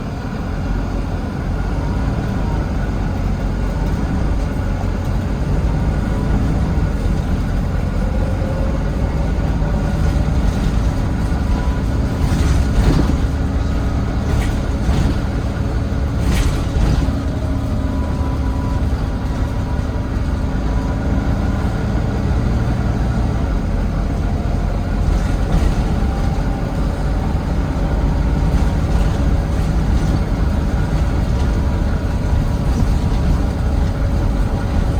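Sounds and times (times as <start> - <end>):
bus diesel engine running: 0.0 - 34.9.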